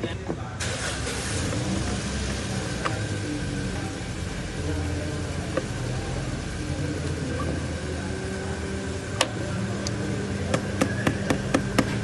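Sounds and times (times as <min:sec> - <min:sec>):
car engine running: 0:00.6 - 0:12.0.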